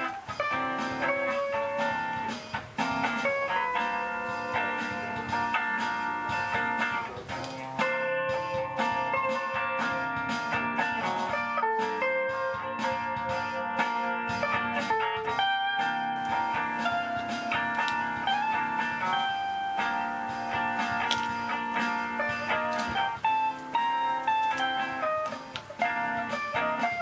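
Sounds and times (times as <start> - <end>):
guitar instrumental music: 0.0 - 27.0.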